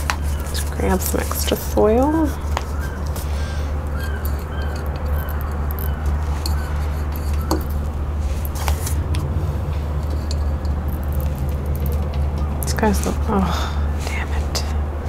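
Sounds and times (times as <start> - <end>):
soil rustling: 0.0 - 14.8
low hum: 0.0 - 15.0.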